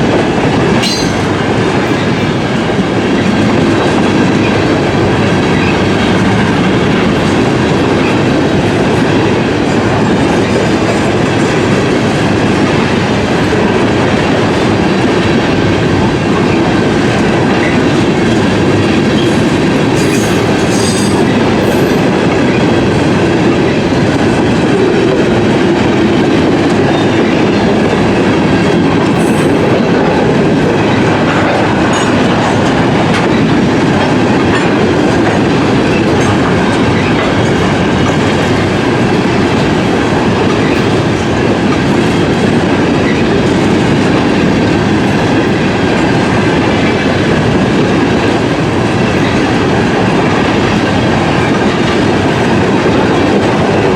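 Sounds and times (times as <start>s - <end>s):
train wheels clattering on rails: 0.0s - 53.9s.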